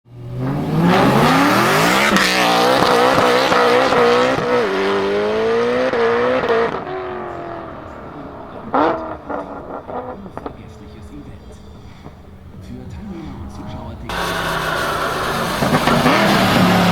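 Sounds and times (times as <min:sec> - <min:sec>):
car engine accelerating: 0:00.1 - 0:16.9.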